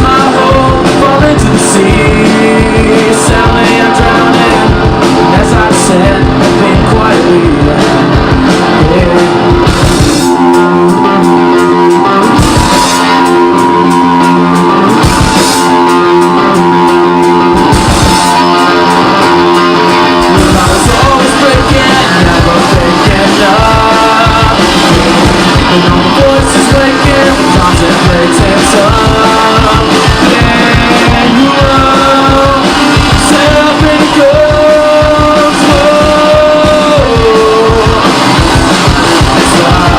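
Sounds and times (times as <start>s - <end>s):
bending lead guitar line: 0.0s - 39.9s
hammered guitar chords: 0.0s - 39.9s
rock band playing live: 0.0s - 39.9s.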